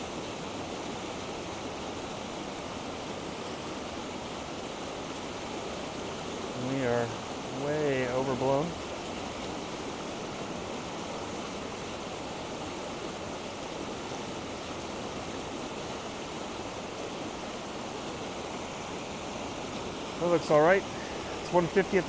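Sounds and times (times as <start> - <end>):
river flowing: 0.0 - 22.0
waterfall rushing: 0.0 - 22.0.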